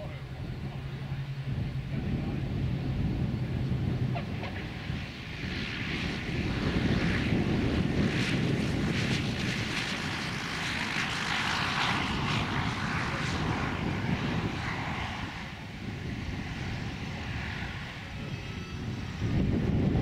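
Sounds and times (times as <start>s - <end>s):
twin piston aircraft engines: 0.0s - 20.0s.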